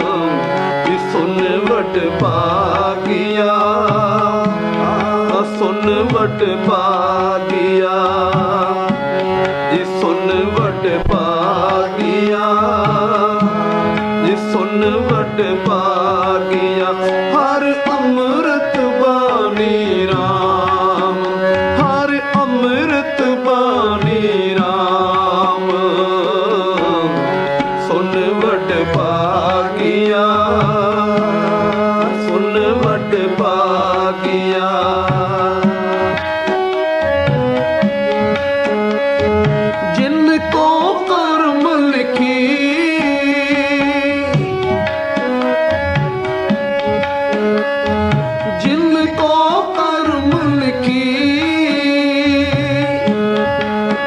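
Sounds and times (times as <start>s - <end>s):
tabla playing: 0.0s - 54.0s.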